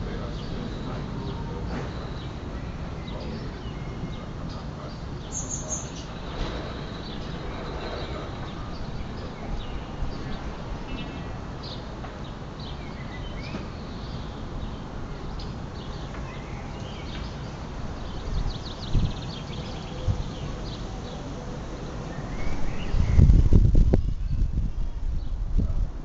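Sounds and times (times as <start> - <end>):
small birds chirping: 0.0 - 25.8.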